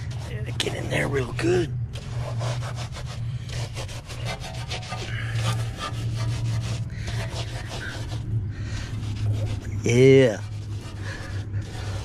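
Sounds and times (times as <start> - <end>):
brush scrubbing a wet wheel: 0.0 - 12.0
steady low hum: 0.0 - 12.0.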